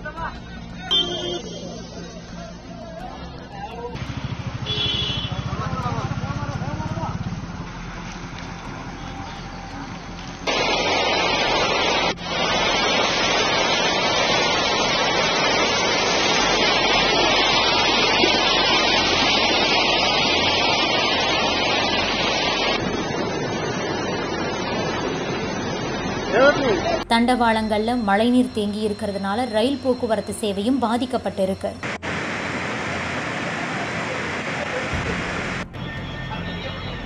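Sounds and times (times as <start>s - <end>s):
floodwater rushing: 3.9s - 31.1s, 31.8s - 37.0s.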